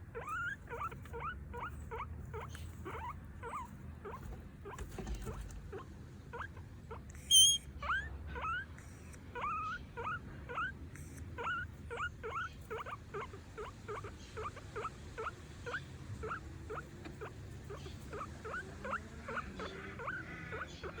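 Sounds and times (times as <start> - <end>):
guinea pig wheeking: 0.0 - 21.0.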